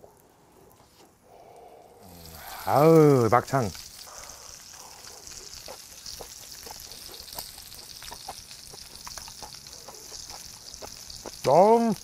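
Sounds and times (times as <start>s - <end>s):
meat sizzling in a pan: 2.0s - 12.0s.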